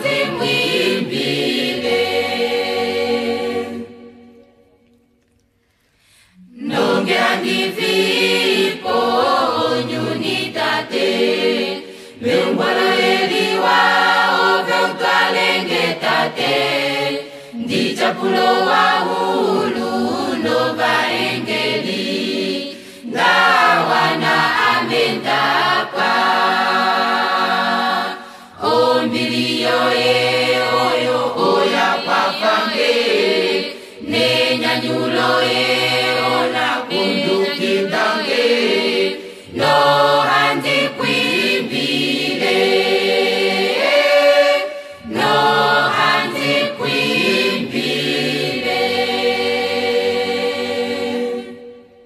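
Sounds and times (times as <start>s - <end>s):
choir singing: 0.0s - 4.7s, 6.4s - 52.0s.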